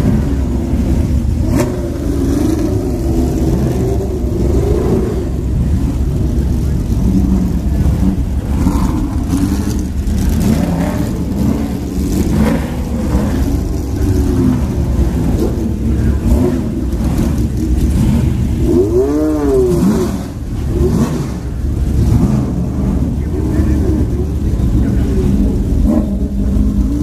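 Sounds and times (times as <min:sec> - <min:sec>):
engine revving: 0:00.0 - 0:27.0
racing car engines running: 0:00.0 - 0:27.0.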